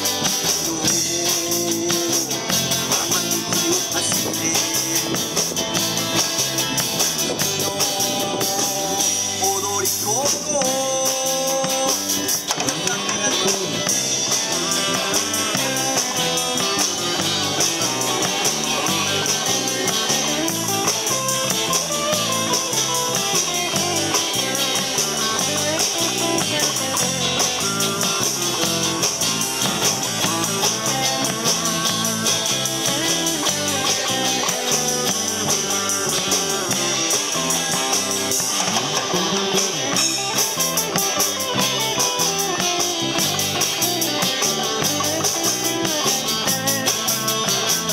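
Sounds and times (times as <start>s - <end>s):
drum kit: 0.0s - 47.9s
electric bass: 0.0s - 47.9s
electric guitars: 0.0s - 47.9s.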